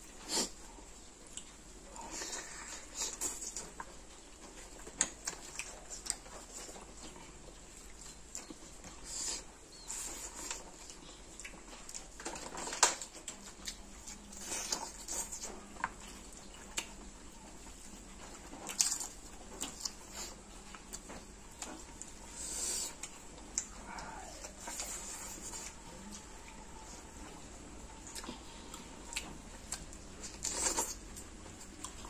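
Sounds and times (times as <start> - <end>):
wet chewing: 0.2 - 32.0.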